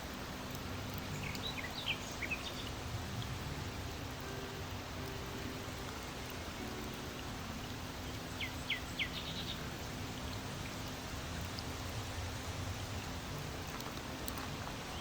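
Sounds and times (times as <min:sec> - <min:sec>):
running water and rain: 0:00.0 - 0:15.0
small songbird chirping: 0:00.5 - 0:15.0.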